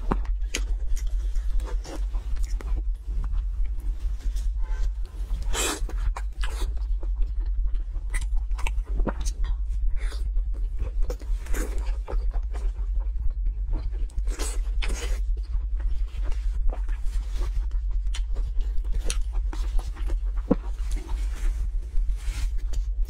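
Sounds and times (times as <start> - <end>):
person chewing wetly: 0.0 - 4.0, 4.9 - 21.2
low steady hum: 0.0 - 23.0.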